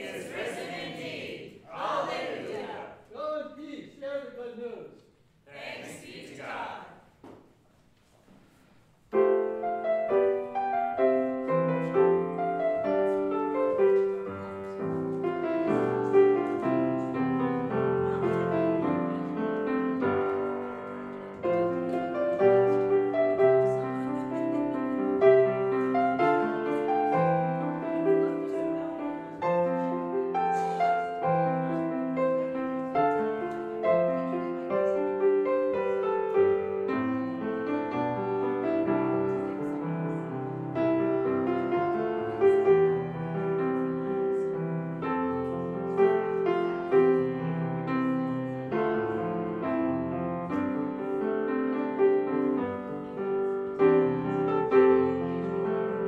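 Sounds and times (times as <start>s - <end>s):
piano music: 9.1s - 56.0s.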